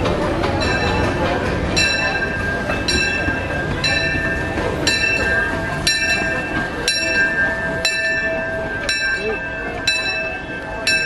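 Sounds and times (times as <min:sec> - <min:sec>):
locomotive bell ringing: 0:00.0 - 0:11.0
low rumble of train: 0:00.0 - 0:11.0.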